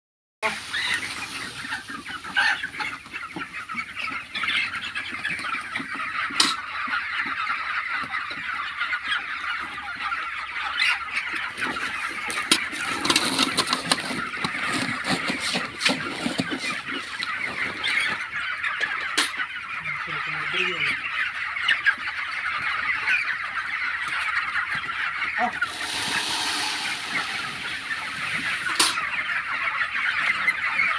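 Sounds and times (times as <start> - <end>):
chicks cheeping: 0.4 - 30.9.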